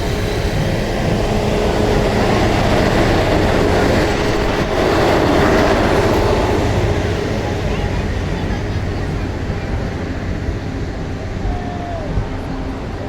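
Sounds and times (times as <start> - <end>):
steam train running on track: 0.0 - 13.0.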